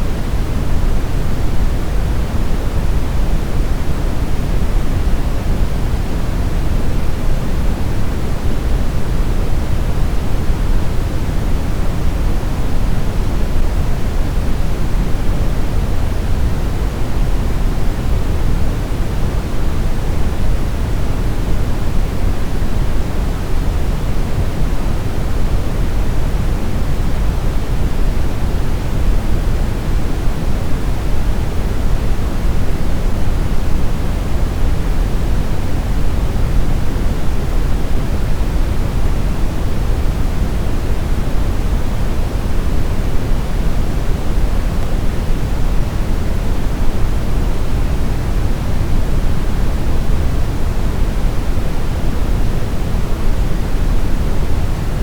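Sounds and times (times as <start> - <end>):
steady brown noise: 0.0 - 55.0.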